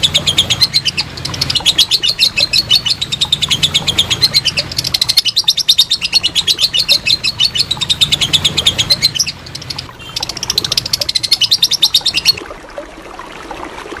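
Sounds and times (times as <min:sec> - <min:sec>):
lovebird chatter: 0:00.0 - 0:12.4.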